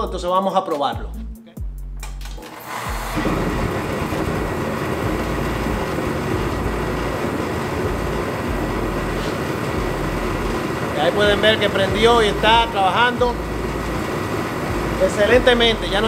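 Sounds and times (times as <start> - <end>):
heater fan and burner rushing: 2.4 - 16.0.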